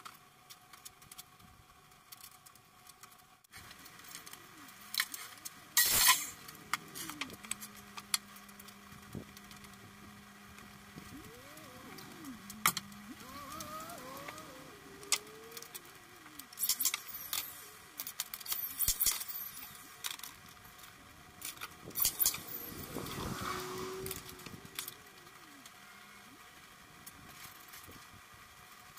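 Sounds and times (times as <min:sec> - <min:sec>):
motor humming and whining: 0:03.6 - 0:28.5.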